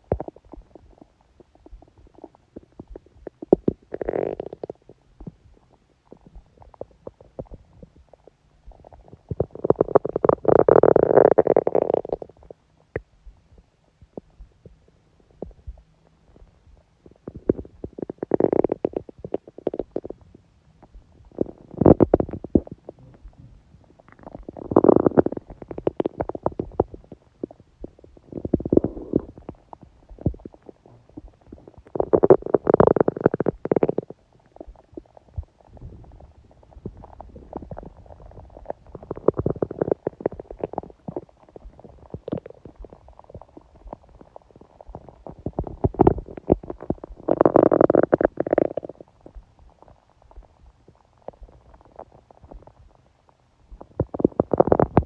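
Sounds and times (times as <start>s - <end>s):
stomach growling: 0.0s - 55.0s.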